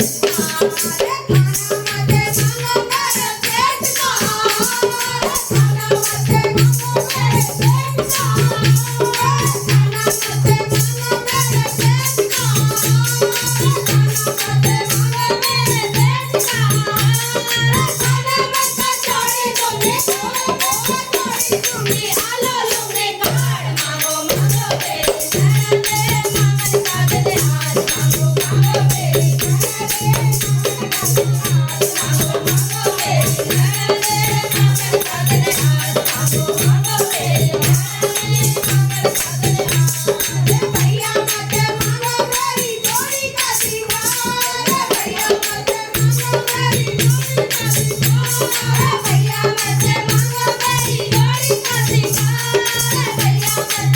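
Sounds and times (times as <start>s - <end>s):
rhythmic percussion: 0.0s - 53.9s
woman singing: 0.0s - 53.9s.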